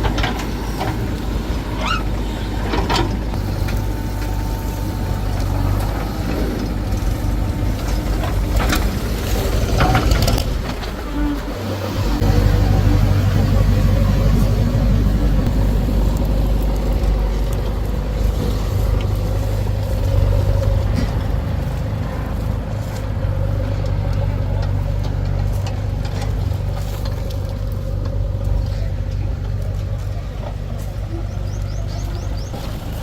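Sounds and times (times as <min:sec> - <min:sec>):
heavy diesel engine droning: 0:00.0 - 0:33.0.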